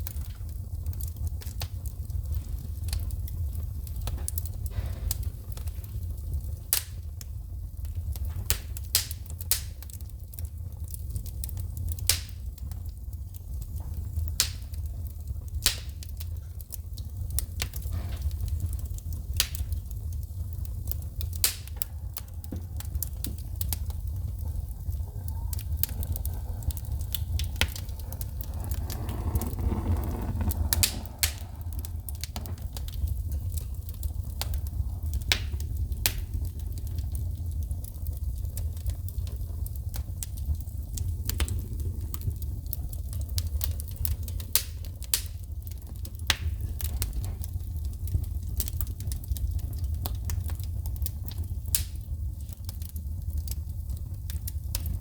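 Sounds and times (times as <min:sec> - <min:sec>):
low rumble of flames: 0:00.0 - 0:55.0
wood fire popping and snapping: 0:00.0 - 0:55.0.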